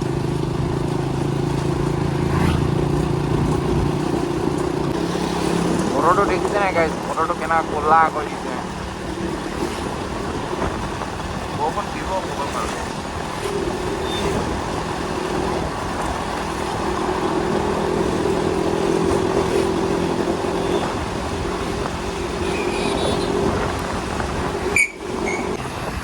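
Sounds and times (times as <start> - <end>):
motorcycle engine hum: 0.0 - 26.0
wind and road noise: 0.0 - 26.0.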